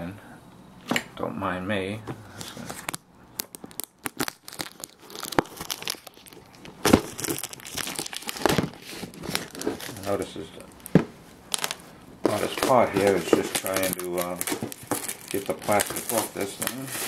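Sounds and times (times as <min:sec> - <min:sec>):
plastic shrink-wrap crinkling: 0:02.4 - 0:17.0.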